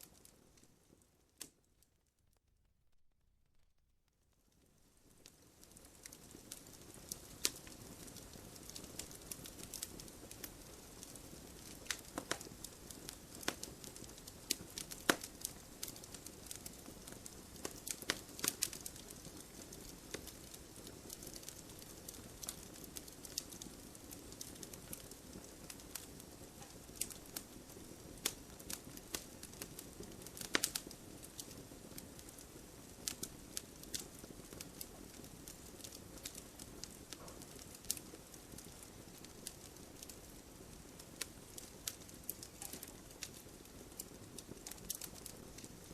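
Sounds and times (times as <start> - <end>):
firewood crackling and popping: 0.0 - 2.4, 3.4 - 45.9.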